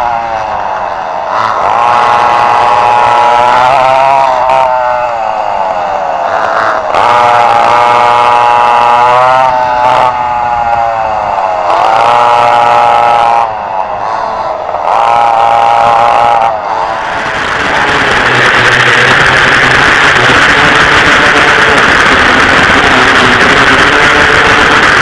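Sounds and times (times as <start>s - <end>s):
racing kart engines at full throttle: 0.0s - 25.0s.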